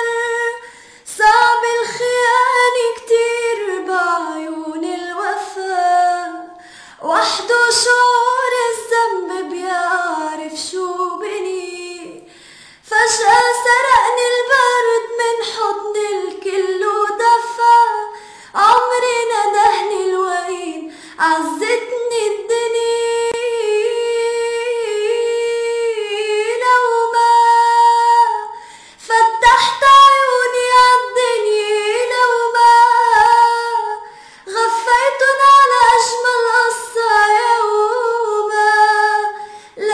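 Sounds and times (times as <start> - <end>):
woman singing unaccompanied: 0.0 - 39.9.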